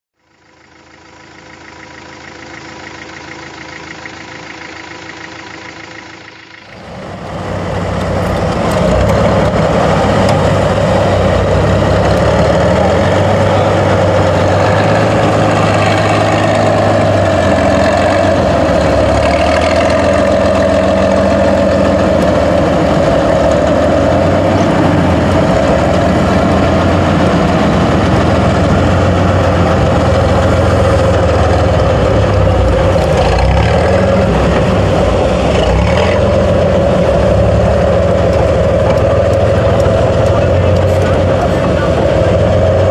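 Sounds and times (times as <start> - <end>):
diesel truck engine running: 0.2 - 42.9.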